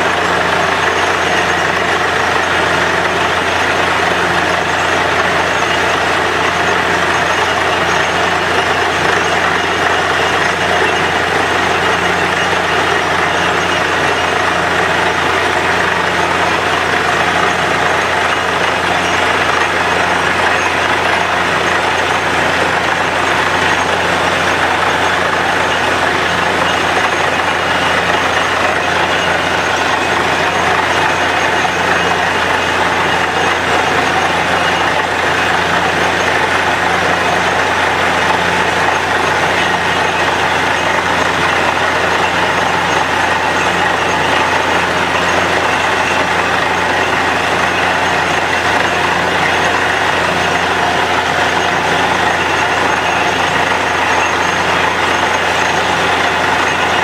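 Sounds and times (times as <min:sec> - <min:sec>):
drilling rig running: 0:00.0 - 0:57.0
mud slurry flushing: 0:00.0 - 0:57.0.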